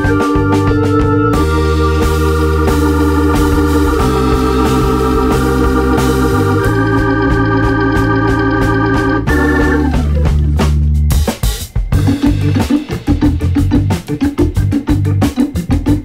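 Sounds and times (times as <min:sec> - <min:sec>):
background music with beat: 0:00.0 - 0:16.0.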